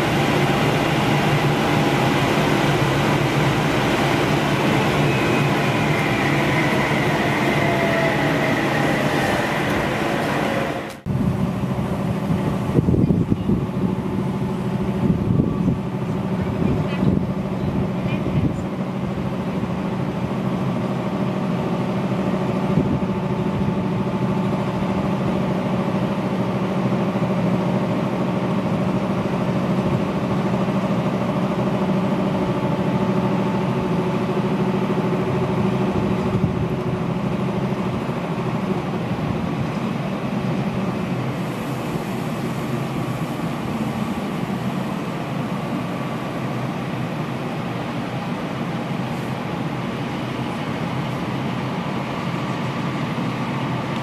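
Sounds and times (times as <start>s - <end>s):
electric locomotive humming: 0.0s - 54.0s.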